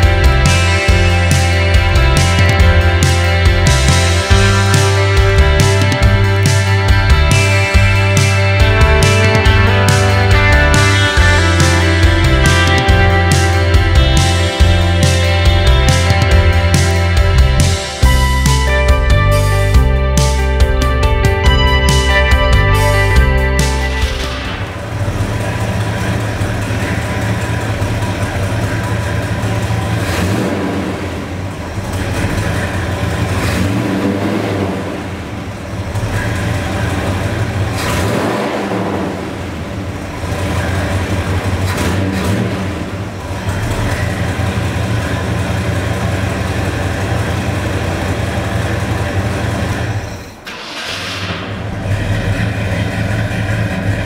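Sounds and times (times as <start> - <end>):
pickup truck engine running: 0.0 - 54.0.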